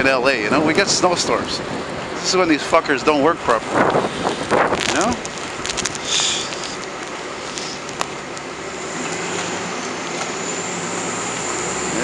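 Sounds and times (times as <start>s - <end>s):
bus engine hum: 0.0s - 12.0s
traffic noise: 0.0s - 12.0s.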